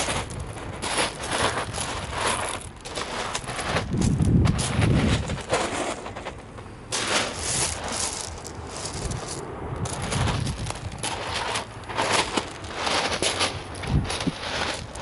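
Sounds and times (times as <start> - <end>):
low rumble: 0.0 - 15.0
pebbles crunching and rattling: 0.0 - 15.0.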